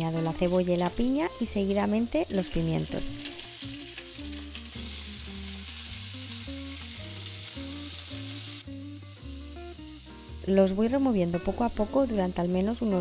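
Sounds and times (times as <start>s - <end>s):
soft background music: 0.0s - 13.0s
vegetables sizzling in wok: 0.0s - 13.0s.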